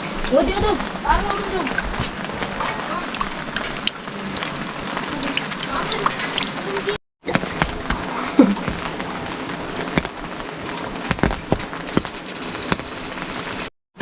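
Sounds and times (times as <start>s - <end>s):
steady rain with sharp drops: 0.0s - 13.7s.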